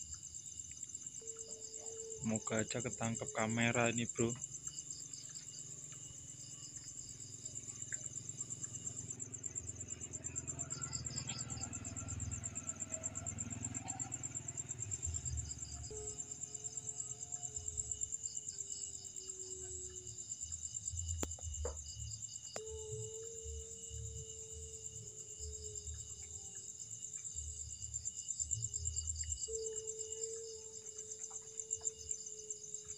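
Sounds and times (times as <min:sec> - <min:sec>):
crickets chirring: 0:00.0 - 0:32.9
insect chirping: 0:00.0 - 0:32.9.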